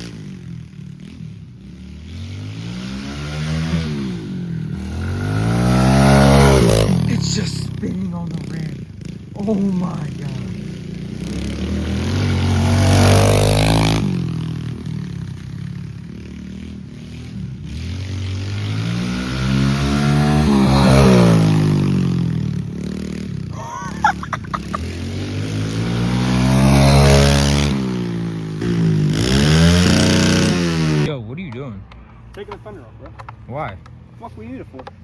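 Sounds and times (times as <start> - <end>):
pit bike engine revving: 0.0 - 31.2.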